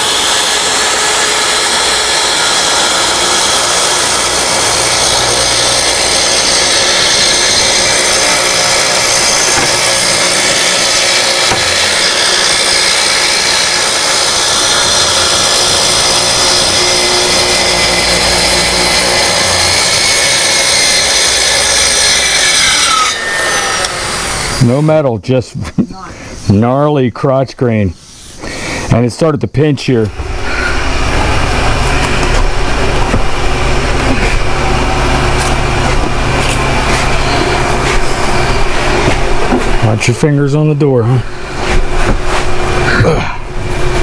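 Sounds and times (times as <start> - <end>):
track saw cutting wood: 0.0 - 25.1, 30.0 - 44.0.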